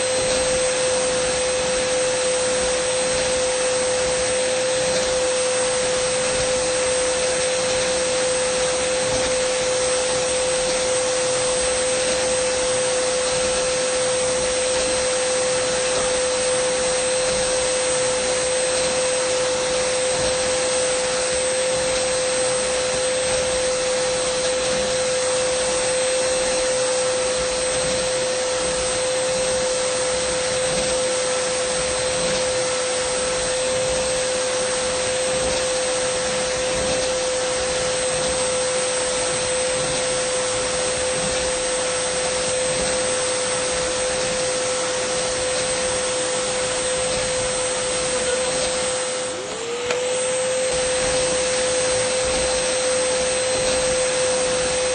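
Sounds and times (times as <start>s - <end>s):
vacuum cleaner whine: 0.0s - 54.9s.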